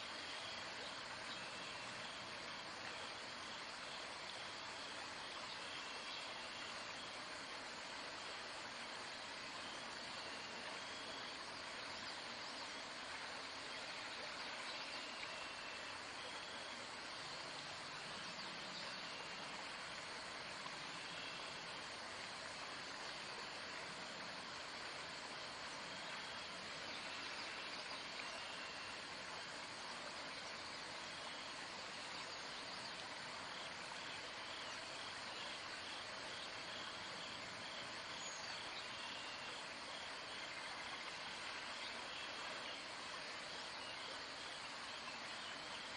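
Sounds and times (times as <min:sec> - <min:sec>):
outdoor background hiss: 0:00.0 - 0:45.9.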